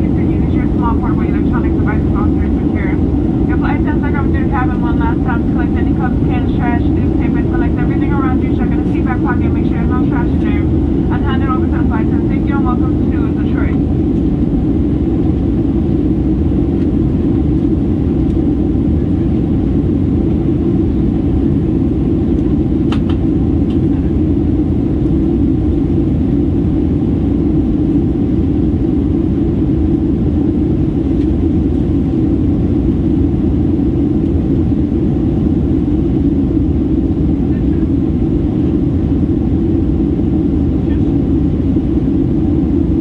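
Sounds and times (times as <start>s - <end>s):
airplane cabin drone: 0.0s - 43.0s.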